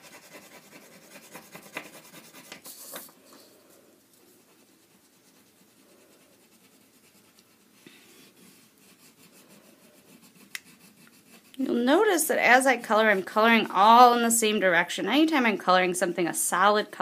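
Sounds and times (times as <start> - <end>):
crayon scratching on paper: 0.0 - 3.5, 4.2 - 14.4.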